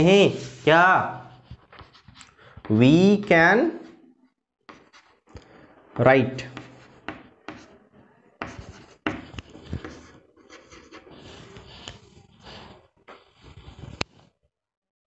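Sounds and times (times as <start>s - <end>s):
chalk scratching on chalkboard: 0.0s - 4.0s, 4.7s - 14.2s.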